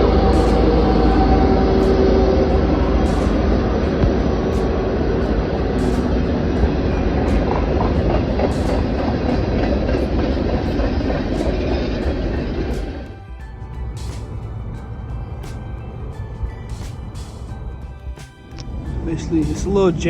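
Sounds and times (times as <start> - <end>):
heavy vehicle rumbling: 0.0 - 20.0.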